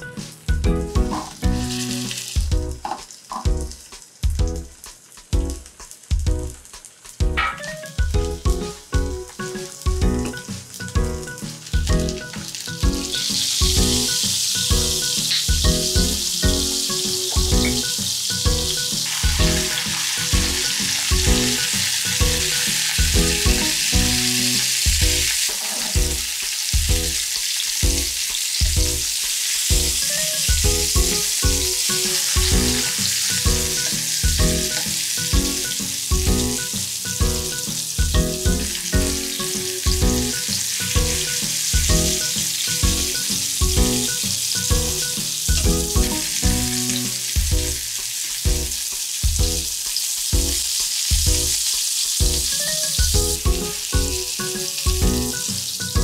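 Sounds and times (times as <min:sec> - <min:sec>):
light background music: 0:00.0 - 0:56.0
zucchini sizzling in oil: 0:00.0 - 0:56.0.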